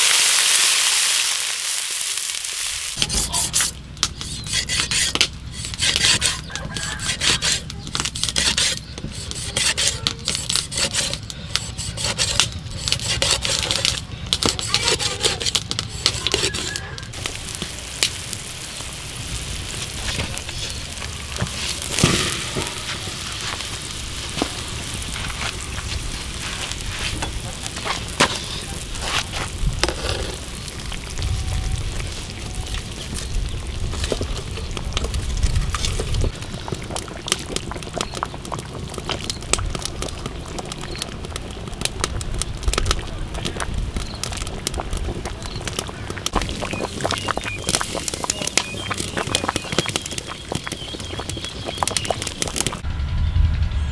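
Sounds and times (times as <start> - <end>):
wood fire crackling: 0.0 - 52.9
broth bubbling: 2.9 - 52.8.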